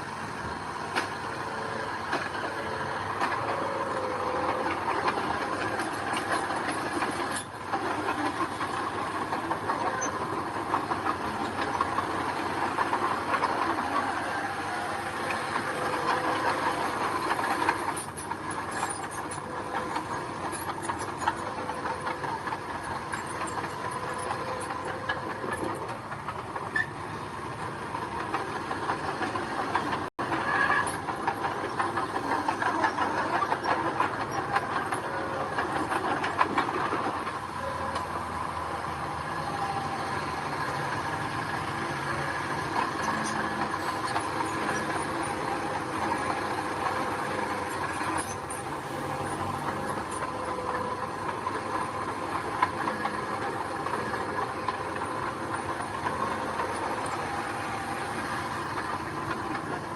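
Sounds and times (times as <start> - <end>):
heavy diesel engine drone: 0.0 - 59.9.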